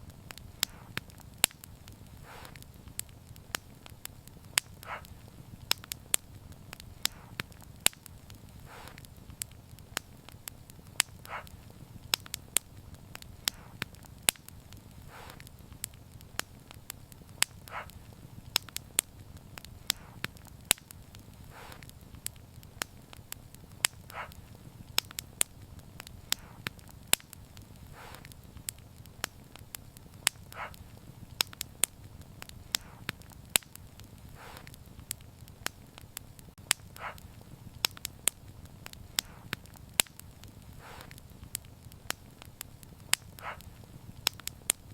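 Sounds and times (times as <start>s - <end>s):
burning wood popping: 0.0s - 44.9s
soft hiss: 0.0s - 44.9s
wood fire crackling: 0.0s - 44.9s.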